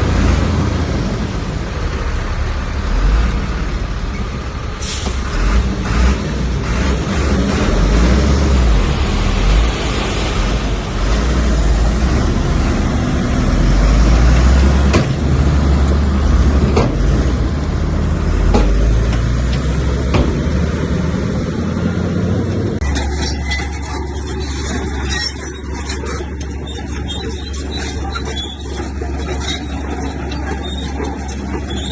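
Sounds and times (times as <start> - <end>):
bulldozer diesel engine: 0.0 - 31.9.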